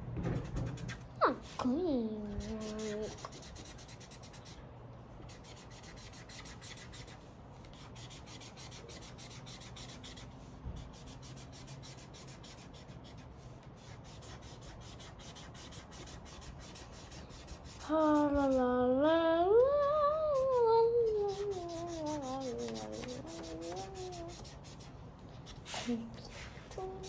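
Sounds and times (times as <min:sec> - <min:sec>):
marker scribbling on paper: 0:00.3 - 0:04.6, 0:05.3 - 0:18.6, 0:20.3 - 0:27.0.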